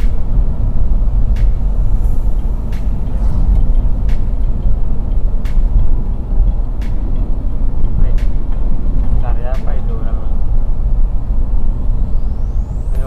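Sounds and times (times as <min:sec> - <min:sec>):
van engine and road noise: 0:00.0 - 0:13.0.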